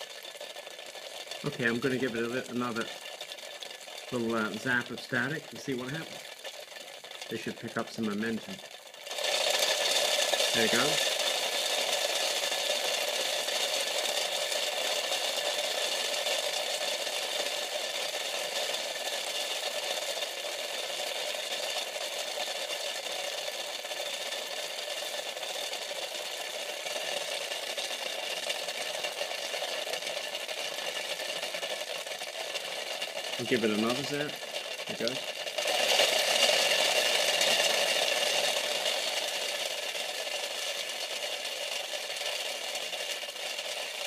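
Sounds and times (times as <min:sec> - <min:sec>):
foam pellets rattling in plastic case: 0:00.0 - 0:44.0.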